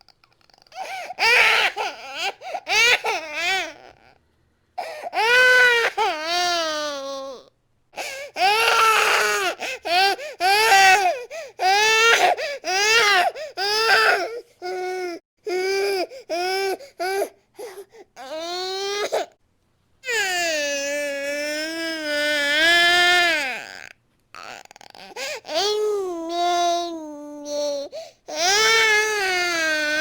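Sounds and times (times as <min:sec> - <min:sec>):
baby crying: 0:00.7 - 0:04.1, 0:04.8 - 0:19.3, 0:20.0 - 0:30.0.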